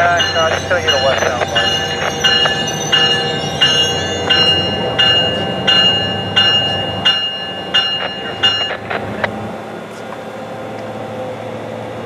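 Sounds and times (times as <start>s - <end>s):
train warning bell ringing: 0.0s - 10.3s
train engine low hum: 0.0s - 12.0s.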